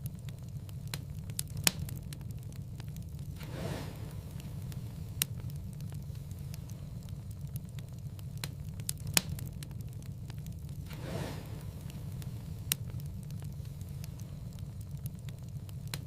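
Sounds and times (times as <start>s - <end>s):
fire crackling with pops: 0.0s - 16.0s
low rumble of flames: 0.0s - 16.0s
soft hiss: 0.0s - 16.0s.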